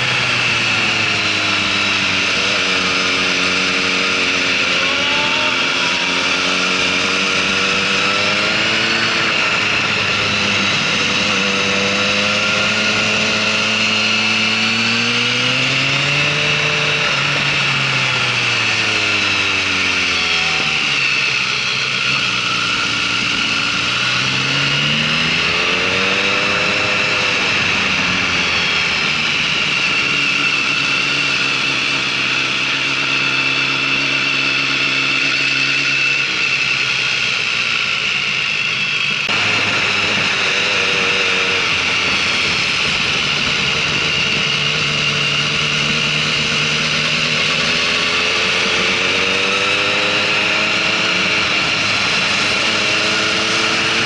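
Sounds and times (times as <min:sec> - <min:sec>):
motorcycle engine revving: 0:00.0 - 0:54.0
steady high whine: 0:00.0 - 0:54.0.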